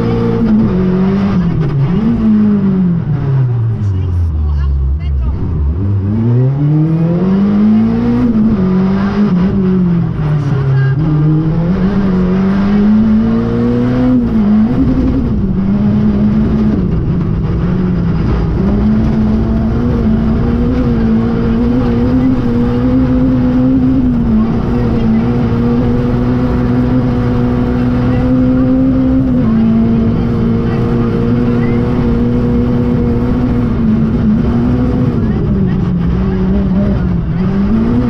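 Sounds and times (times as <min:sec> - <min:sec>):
car engine revving: 0:00.0 - 0:38.0
road and tyre noise: 0:00.0 - 0:38.0.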